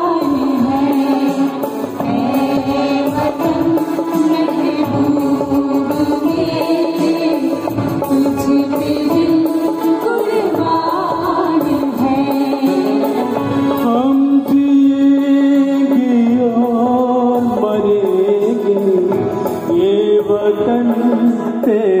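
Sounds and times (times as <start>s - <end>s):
harmonium: 0.0s - 22.0s.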